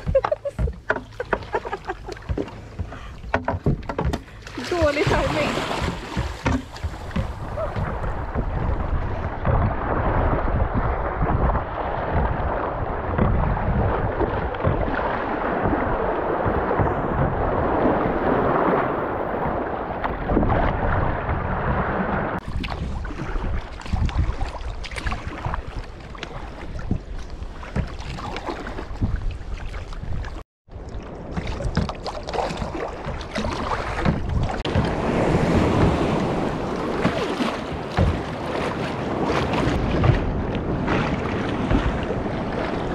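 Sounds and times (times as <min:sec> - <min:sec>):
sea water splashing: 0:00.0 - 0:42.9
wind on microphone: 0:02.8 - 0:31.9, 0:32.5 - 0:42.9.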